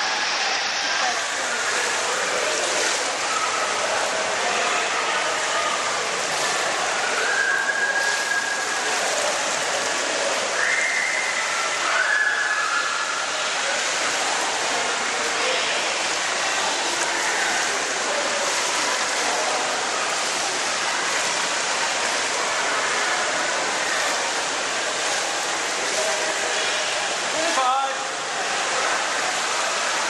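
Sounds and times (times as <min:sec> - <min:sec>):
rushing water in pool hall: 0:00.0 - 0:30.0.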